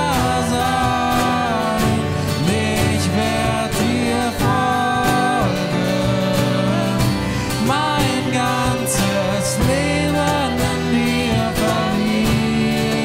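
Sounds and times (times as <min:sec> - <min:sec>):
acoustic guitars strummed: 0:00.0 - 0:13.0
cajon beating: 0:00.0 - 0:13.0
person singing long notes: 0:00.0 - 0:13.0.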